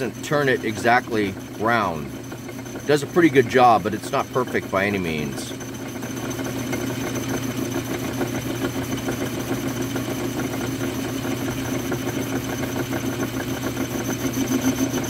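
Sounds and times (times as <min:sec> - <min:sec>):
lathe cutter on metal disc: 0:00.0 - 0:15.0
metal lathe humming: 0:00.0 - 0:15.0.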